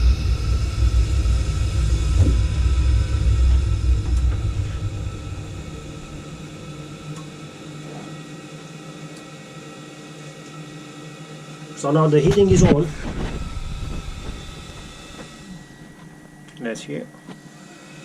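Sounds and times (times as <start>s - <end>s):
boiler rumbling and humming: 0.0s - 18.0s
faint steady tones: 0.0s - 18.0s.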